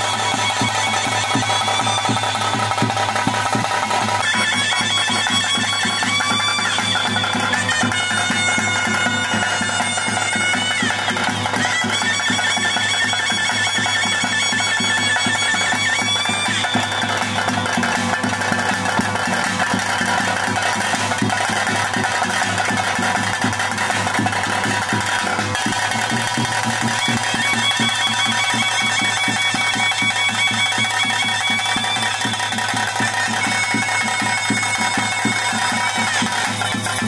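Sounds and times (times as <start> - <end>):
double-reed pipe playing: 0.0 - 37.0
drums: 0.0 - 37.0.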